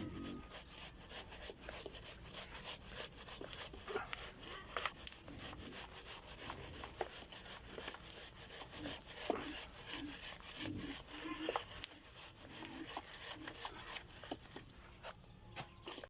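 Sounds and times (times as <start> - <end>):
hand tool scraping wet cement: 0.0 - 16.0.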